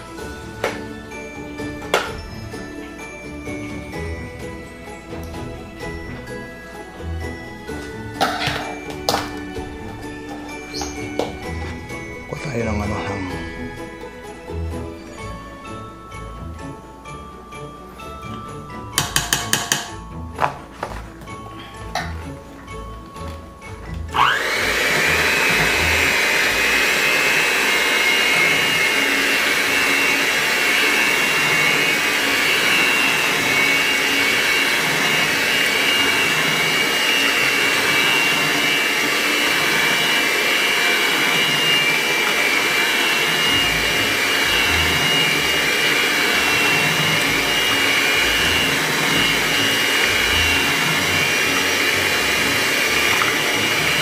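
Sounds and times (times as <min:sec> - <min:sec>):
electric hand mixer whining: 0:00.0 - 0:54.0.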